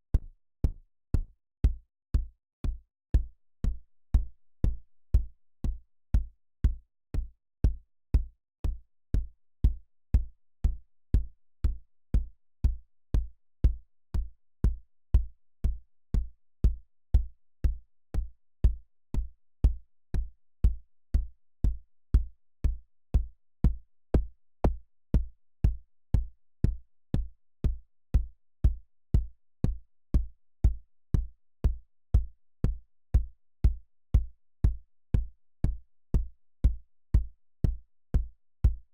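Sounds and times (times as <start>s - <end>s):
synthesized kick drum thumps: 0.2s - 38.9s.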